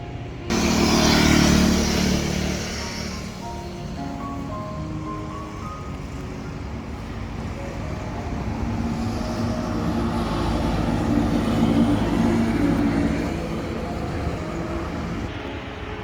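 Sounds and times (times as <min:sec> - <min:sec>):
motor vehicle passing: 0:00.5 - 0:15.3.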